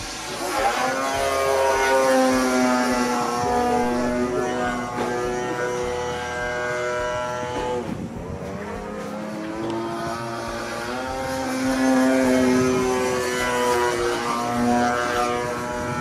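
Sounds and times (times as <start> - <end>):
model plane engine in flight: 0.0 - 16.0.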